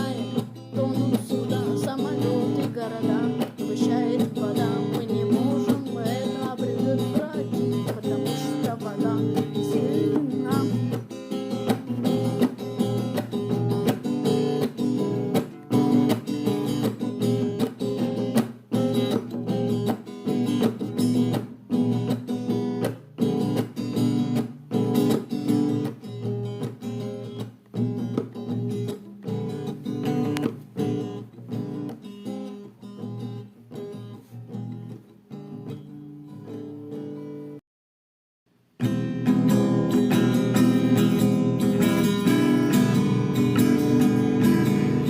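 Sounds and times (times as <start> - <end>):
acoustic guitar strumming chords: 0.0 - 37.6, 38.8 - 45.0.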